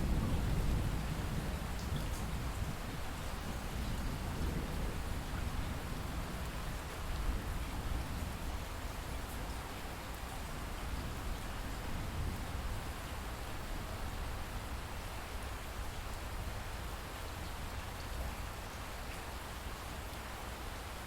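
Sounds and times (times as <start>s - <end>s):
light rain falling: 0.0s - 21.0s.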